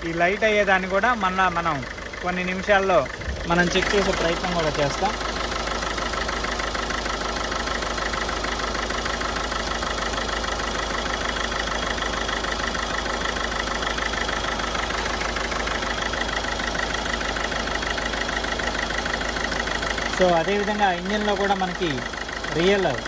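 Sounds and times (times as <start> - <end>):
diesel engine idling with clatter: 0.0 - 23.0.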